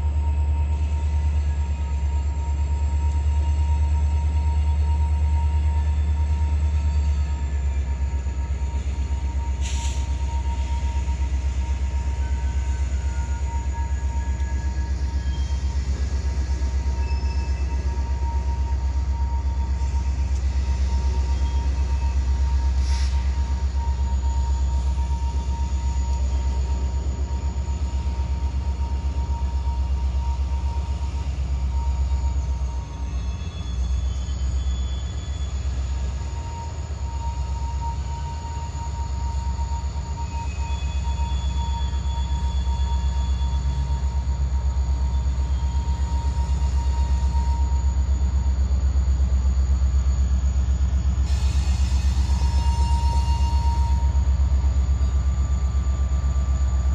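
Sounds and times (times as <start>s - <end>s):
freight train rumbling past: 0.0s - 56.9s
thin whine: 0.0s - 56.9s.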